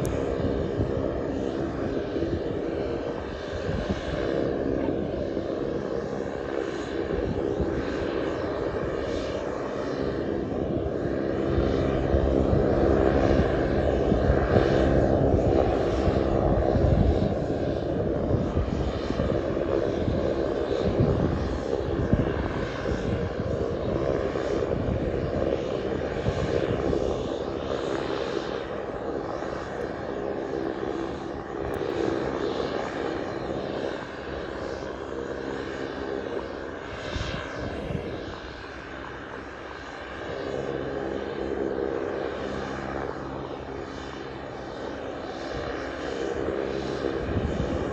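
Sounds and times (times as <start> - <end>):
turboprop engine running: 0.0 - 47.9.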